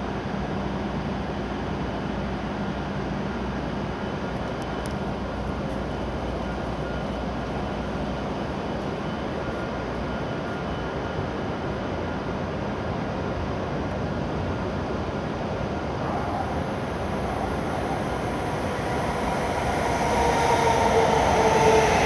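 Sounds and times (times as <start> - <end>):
train hum and rumble: 0.0 - 22.0.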